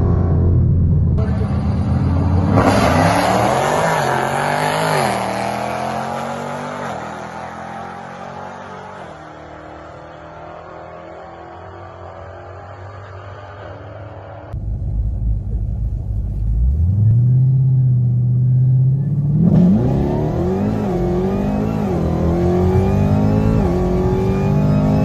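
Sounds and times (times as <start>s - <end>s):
car engine revving and accelerating: 1.2s - 14.6s, 16.3s - 25.0s.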